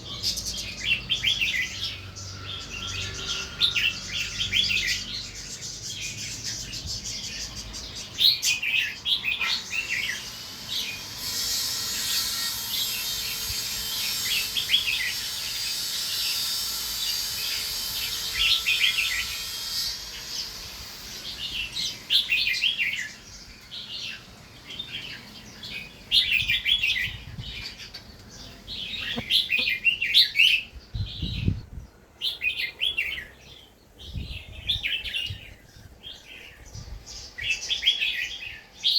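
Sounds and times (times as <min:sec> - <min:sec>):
bulbuls singing: 0:00.0 - 0:38.9.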